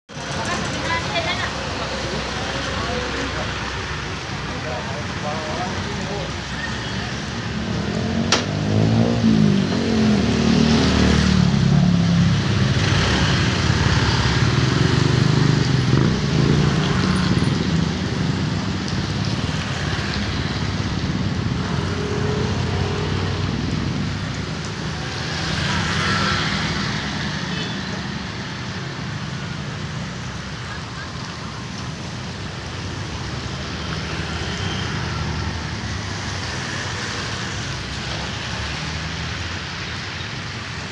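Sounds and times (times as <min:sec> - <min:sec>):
hiss of rain and tyres: 0:00.1 - 0:40.9.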